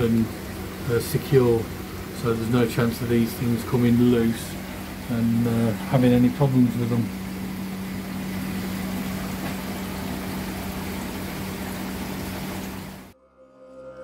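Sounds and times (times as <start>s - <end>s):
electrical hum: 0.0s - 13.2s
pump machinery rushing: 0.0s - 13.2s.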